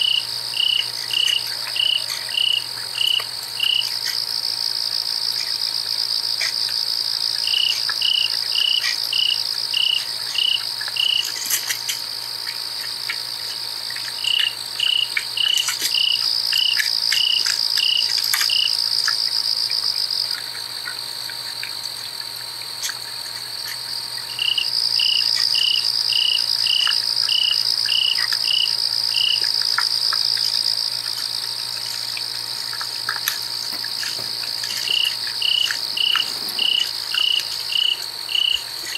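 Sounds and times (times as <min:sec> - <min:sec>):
high insect trill: 0:00.0 - 0:38.9
lower cricket chirps: 0:00.0 - 0:38.9.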